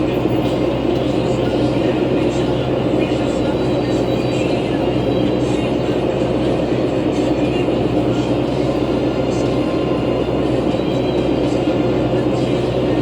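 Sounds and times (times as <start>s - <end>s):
bus interior drone: 0.0s - 13.0s.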